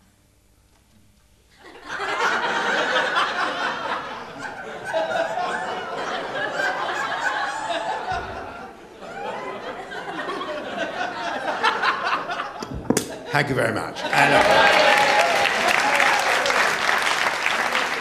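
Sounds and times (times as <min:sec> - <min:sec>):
audience laughing: 0:01.5 - 0:18.0.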